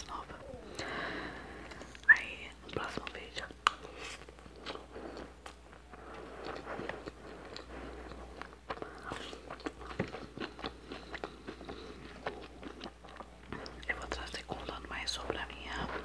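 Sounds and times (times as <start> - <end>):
person chewing and crunching: 0.0 - 16.0.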